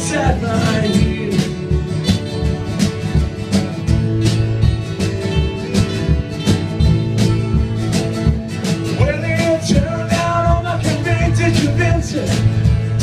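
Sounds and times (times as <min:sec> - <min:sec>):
bass guitar: 0:00.0 - 0:13.0
drums keeping a beat: 0:00.0 - 0:13.0
strummed guitar: 0:00.0 - 0:13.0.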